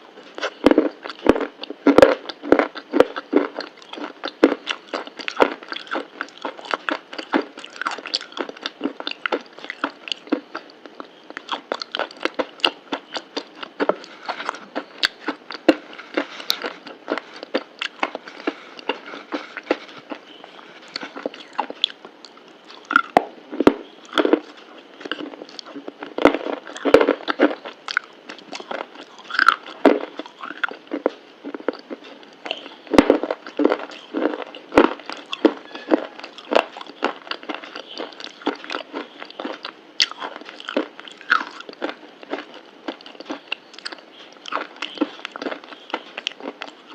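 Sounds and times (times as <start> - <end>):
crunchy bites and chewing: 0.1 - 46.9.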